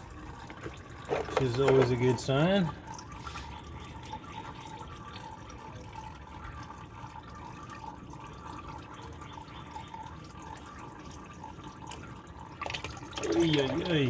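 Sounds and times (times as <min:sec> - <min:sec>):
oil trickling and dripping: 0:00.0 - 0:14.0.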